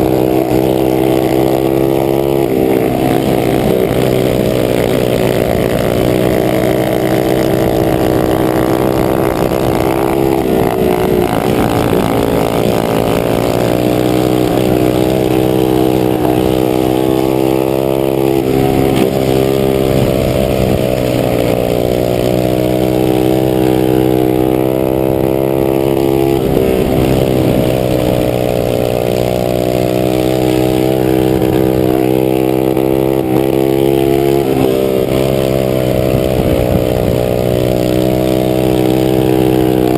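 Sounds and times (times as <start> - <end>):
minibike engines revving: 0.0 - 39.9.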